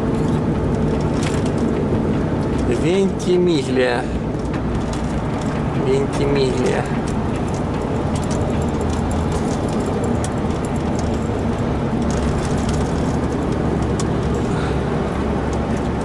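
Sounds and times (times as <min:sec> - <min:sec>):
truck engine and road drone: 0:00.0 - 0:16.0.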